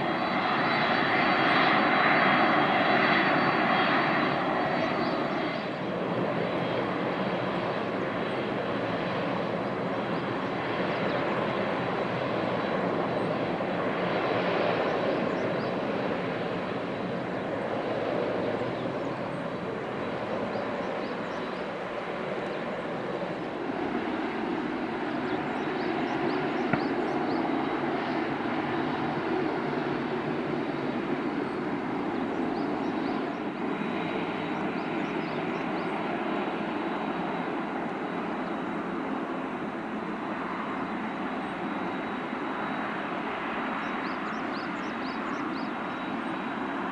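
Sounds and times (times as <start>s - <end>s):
high jet engine whine: 0.0s - 46.9s
jet engines roaring: 0.0s - 46.9s.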